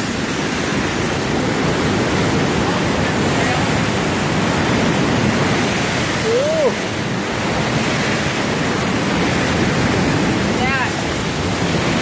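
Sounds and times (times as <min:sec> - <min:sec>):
mountain stream rushing over rocks: 0:00.0 - 0:12.0.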